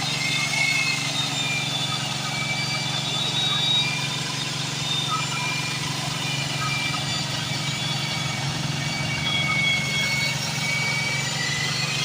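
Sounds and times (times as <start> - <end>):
core cutting machine running: 0.0 - 12.0.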